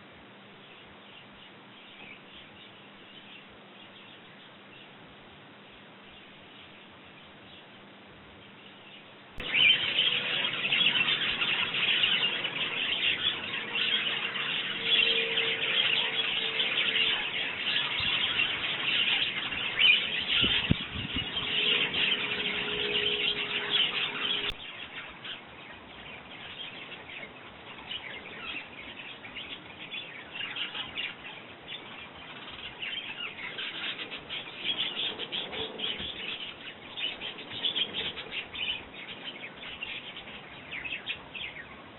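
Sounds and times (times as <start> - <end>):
sparrows chirping: 0.6 - 5.0, 6.0 - 41.9.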